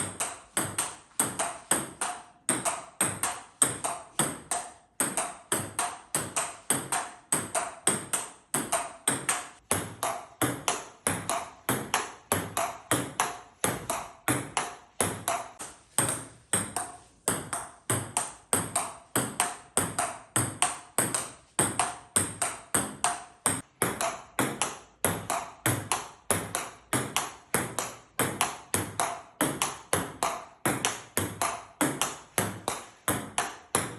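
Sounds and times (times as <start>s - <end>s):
table tennis ball clicking: 0.0s - 33.9s.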